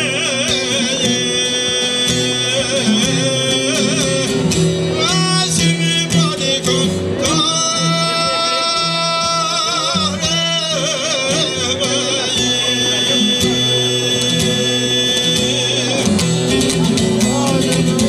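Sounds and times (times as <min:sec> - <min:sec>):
man singing in ornamented voice: 0:00.0 - 0:16.5
plucked two-string lute: 0:00.0 - 0:18.0.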